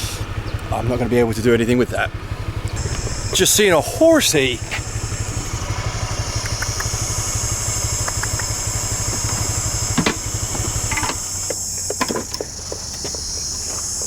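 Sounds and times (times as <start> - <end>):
motorbike engine idling: 0.0 - 14.0
insects buzzing: 2.2 - 14.0.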